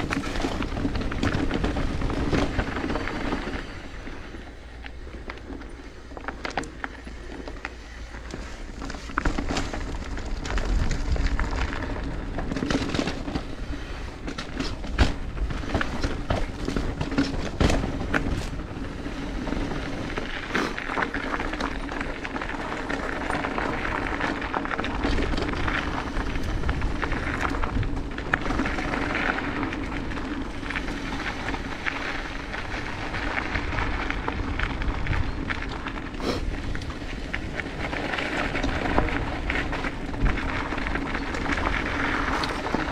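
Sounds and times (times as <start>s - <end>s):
bike clattering over bumps: 0.0s - 42.9s
bike tyres on dirt trail: 0.0s - 42.9s.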